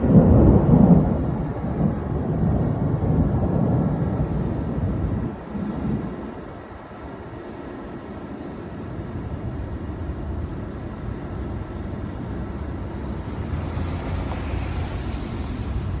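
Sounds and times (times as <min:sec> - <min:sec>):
thunder rolling rumble: 0:00.0 - 0:08.2, 0:08.9 - 0:16.0.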